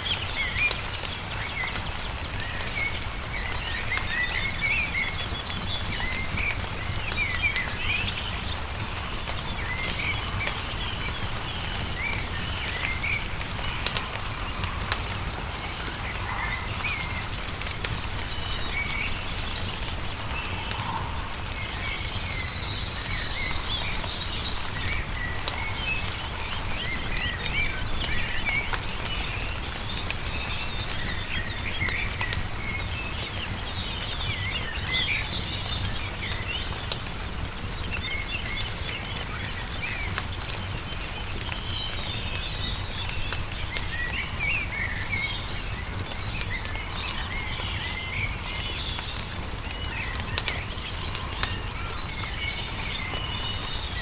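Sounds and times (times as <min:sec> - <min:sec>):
small birds chirping: 0:00.0 - 0:54.0
wood fire crackling: 0:00.0 - 0:54.0.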